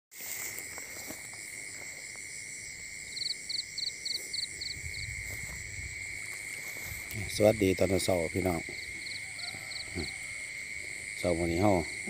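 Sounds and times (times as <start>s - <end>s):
crickets droning: 0.1s - 12.0s
insect chirps: 0.1s - 12.0s.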